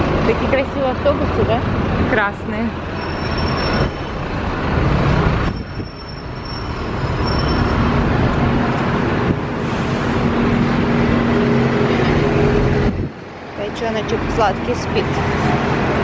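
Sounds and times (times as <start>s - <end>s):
bus engine drone and road noise: 0.0s - 16.0s.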